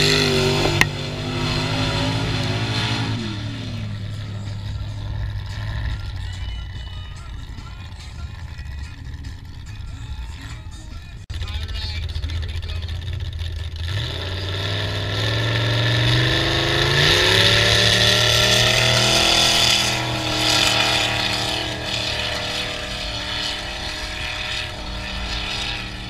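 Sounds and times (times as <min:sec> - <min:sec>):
truck engine revving hard: 0:00.0 - 0:26.0.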